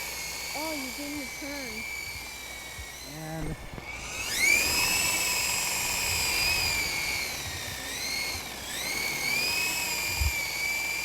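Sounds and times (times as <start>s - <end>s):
toy helicopter motor whining: 0.0s - 11.0s.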